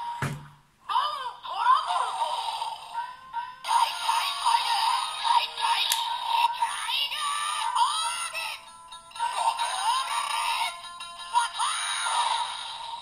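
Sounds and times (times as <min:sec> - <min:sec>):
toy speaker playing electronic song: 0:01.9 - 0:13.0.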